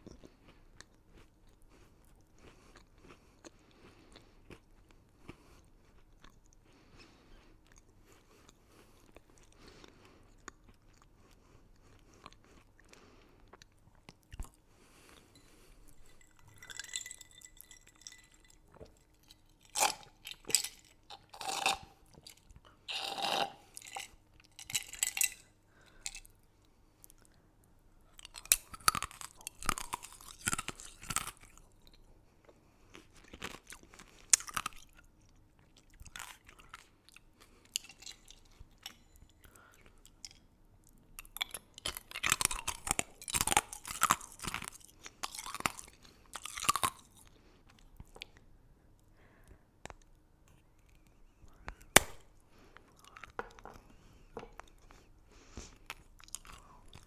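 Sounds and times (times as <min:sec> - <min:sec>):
chewing crunchy candy: 0:00.0 - 0:27.4, 0:28.0 - 0:57.0.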